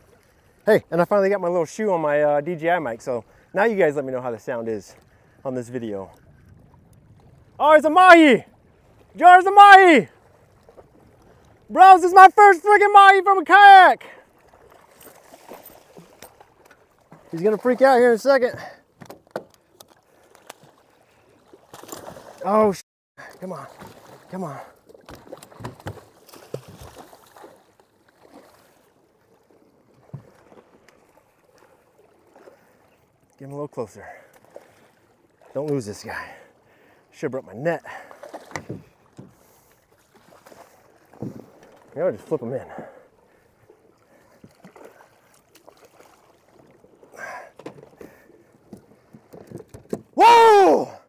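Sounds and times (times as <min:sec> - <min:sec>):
water splashing against kayak hull: 0:00.0 - 0:51.0.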